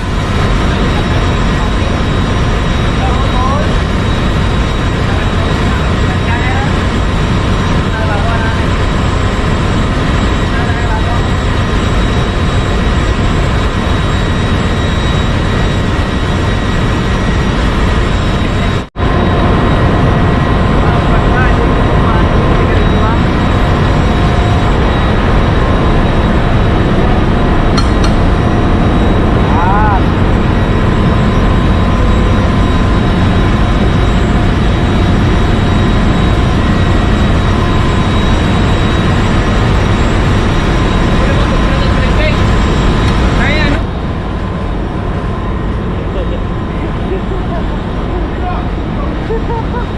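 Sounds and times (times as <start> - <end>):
engine room machinery din: 0.0 - 49.9
faint whining tones: 0.0 - 49.9.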